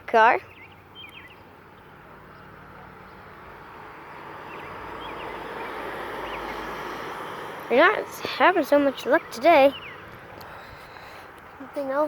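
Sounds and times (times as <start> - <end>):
car passing on road: 0.5 - 12.0.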